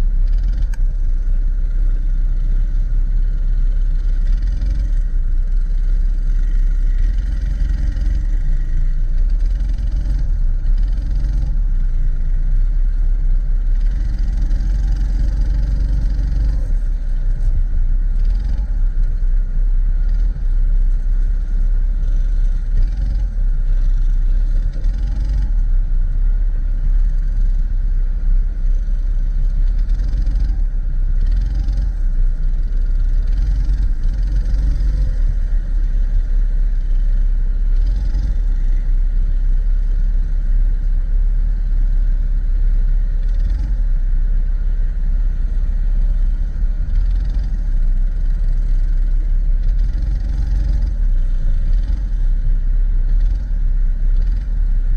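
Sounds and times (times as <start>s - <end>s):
faint clatter: 0.0s - 41.6s, 42.8s - 54.7s
kart engine rumbling: 0.0s - 54.9s.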